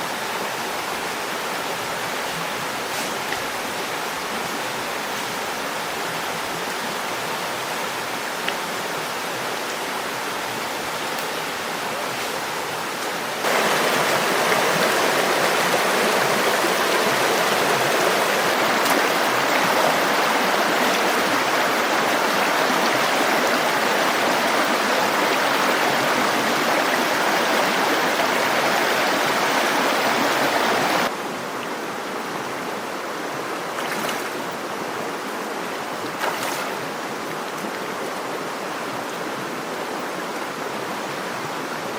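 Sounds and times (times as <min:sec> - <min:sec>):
running water rushing: 0:00.0 - 0:41.9.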